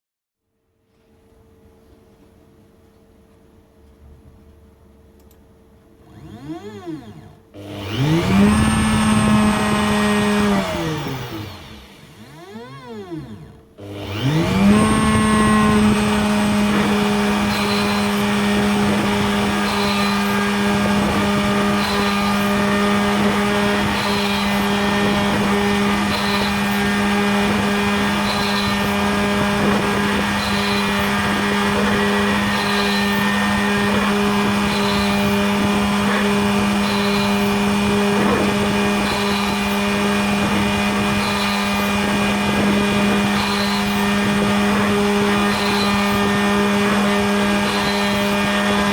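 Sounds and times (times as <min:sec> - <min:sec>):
machine motor humming: 0:04.6 - 0:48.9.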